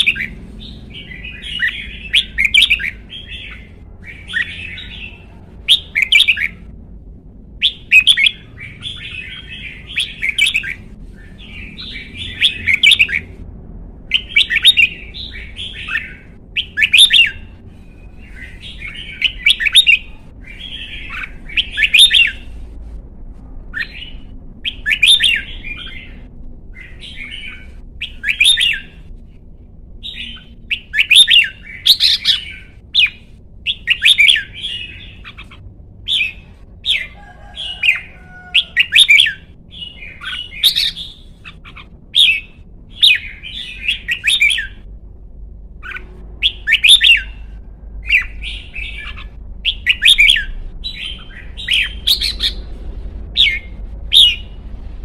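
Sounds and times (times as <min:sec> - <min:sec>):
bird singing warbling phrases: 0:00.0 - 0:06.7, 0:07.6 - 0:13.4, 0:14.1 - 0:22.6, 0:23.7 - 0:29.1, 0:30.0 - 0:44.9, 0:45.8 - 0:52.7, 0:53.4 - 0:54.6.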